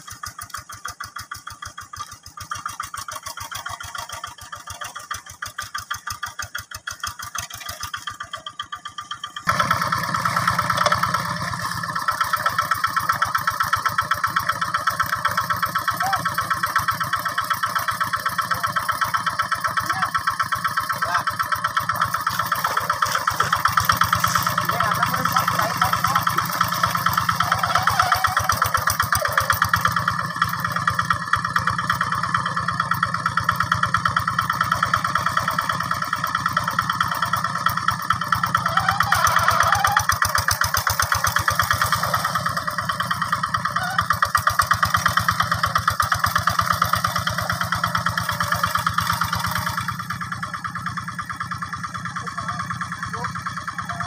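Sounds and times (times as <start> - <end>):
hand tractor diesel engine running: 0.0 - 54.0.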